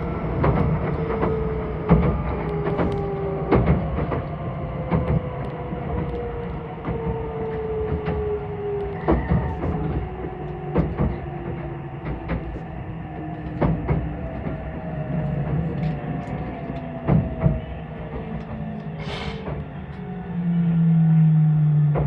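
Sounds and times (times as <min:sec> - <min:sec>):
train rumble with wheel clicks: 0:00.0 - 0:22.0.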